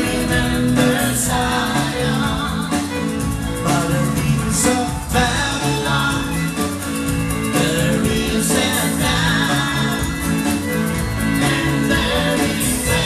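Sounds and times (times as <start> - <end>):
live band playing upbeat song: 0.0 - 13.0
person singing: 0.0 - 13.0.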